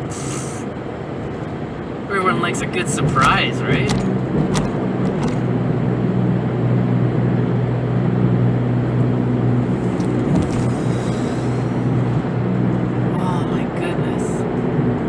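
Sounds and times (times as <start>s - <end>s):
road and tyre noise: 0.0s - 15.0s
van engine running: 0.0s - 15.0s.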